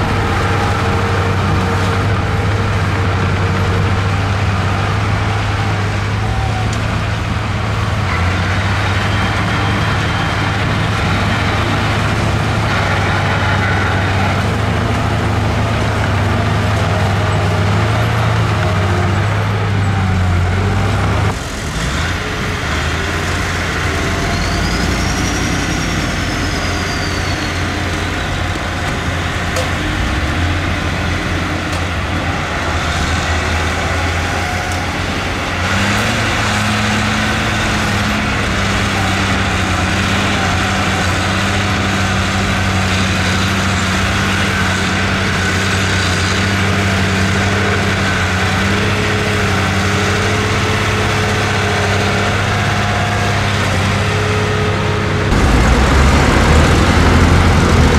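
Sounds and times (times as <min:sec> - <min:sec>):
heavy diesel machinery running: 0:00.0 - 0:57.9
higher engine hum: 0:00.0 - 0:57.9.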